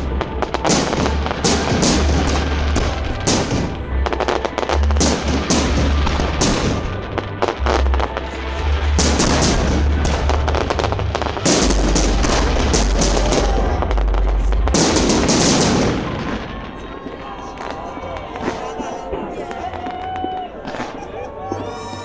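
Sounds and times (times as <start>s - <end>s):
loud music: 0.0s - 21.9s
fireworks bangs and crackles: 0.0s - 22.0s.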